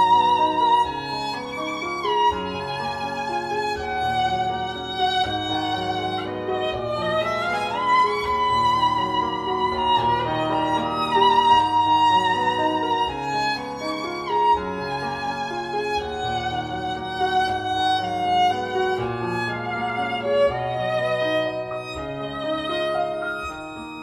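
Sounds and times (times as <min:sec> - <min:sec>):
violin melody with vibrato: 0:00.0 - 0:24.0.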